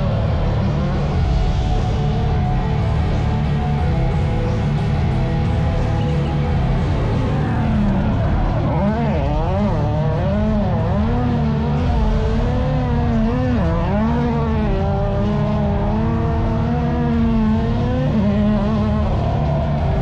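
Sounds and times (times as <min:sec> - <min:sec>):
car engine revving hard: 0:00.0 - 0:20.0.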